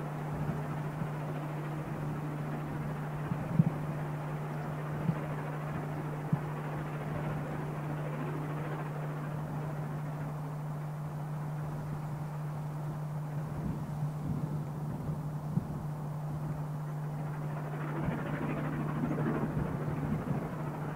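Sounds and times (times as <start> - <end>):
distant steam locomotive exhaust roar: 0.0 - 20.9.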